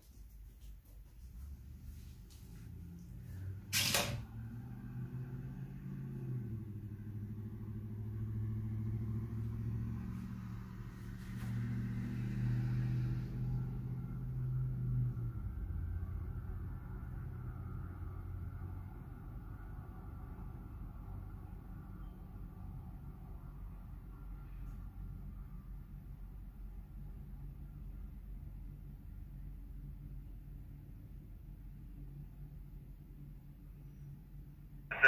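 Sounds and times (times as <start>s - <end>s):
diesel locomotive engine drone: 1.9s - 35.0s.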